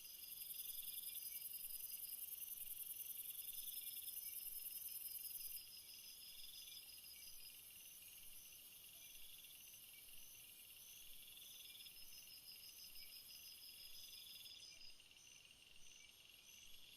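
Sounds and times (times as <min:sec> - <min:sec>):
insects chirping: 0:00.0 - 0:16.9.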